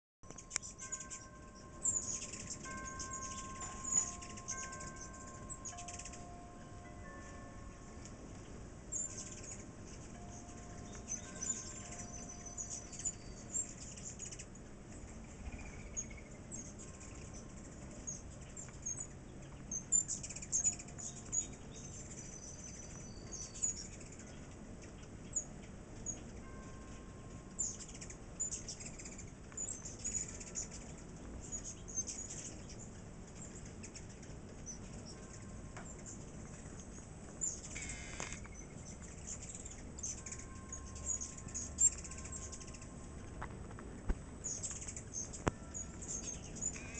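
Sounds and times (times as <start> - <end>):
hummingbirds chittering: 0.3 - 46.9.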